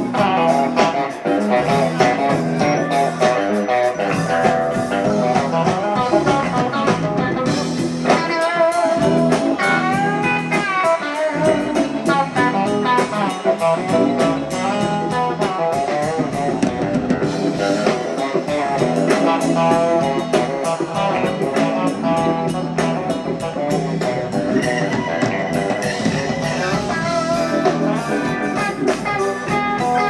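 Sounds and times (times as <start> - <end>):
electric guitar lead: 0.0 - 30.0
steady drum beat: 0.0 - 30.0.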